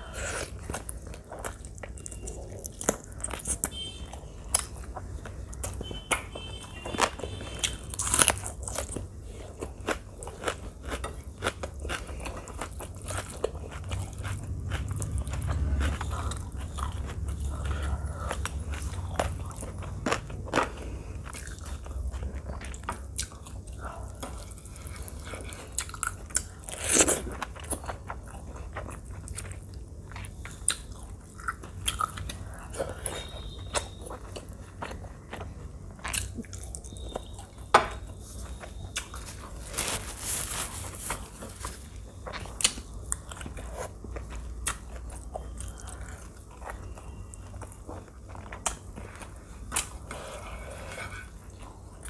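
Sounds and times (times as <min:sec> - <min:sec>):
chewing and biting food: 0:00.0 - 0:52.0.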